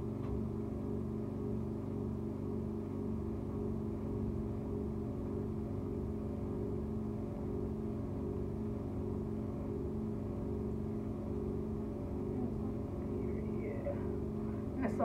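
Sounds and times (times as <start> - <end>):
steady low hum with held tones: 0.0 - 15.0.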